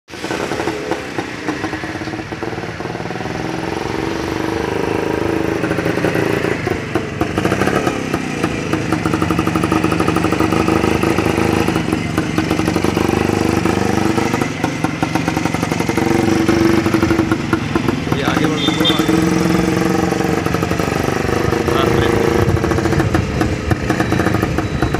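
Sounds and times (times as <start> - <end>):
two-stroke motorcycle engine running: 0.1 - 24.9.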